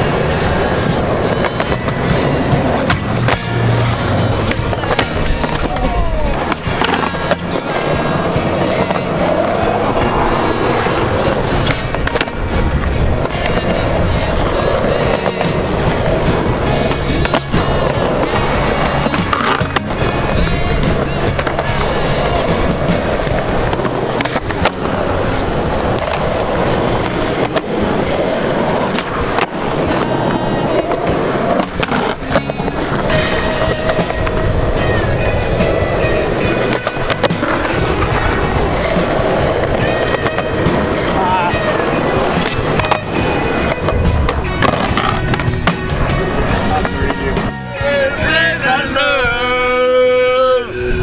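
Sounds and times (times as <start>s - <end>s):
skateboard popping and landing: 0.0s - 47.6s
background music: 0.0s - 51.0s
skateboard wheels rolling on concrete: 0.0s - 51.0s.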